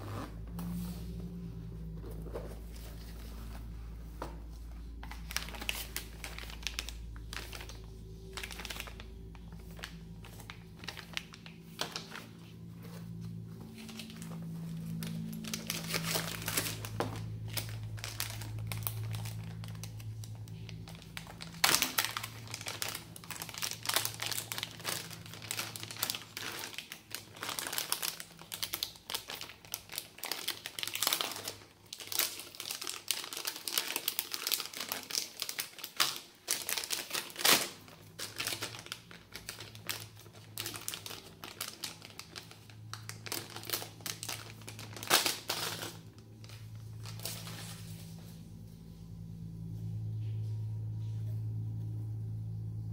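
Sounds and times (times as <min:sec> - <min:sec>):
plastic bag crinkling: 0:02.0 - 0:48.4.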